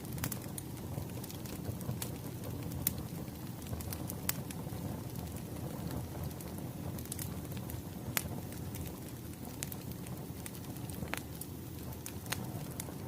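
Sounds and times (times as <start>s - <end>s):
flames rushing: 0.0s - 13.0s
wood popping and crackling: 0.0s - 13.0s.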